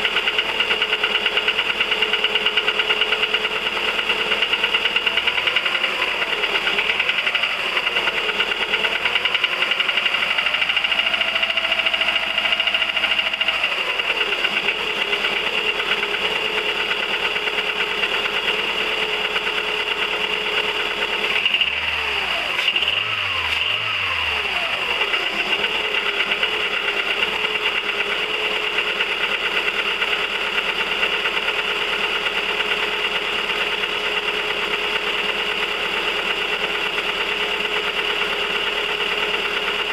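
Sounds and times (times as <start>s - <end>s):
car engine ticking: 0.0s - 39.9s.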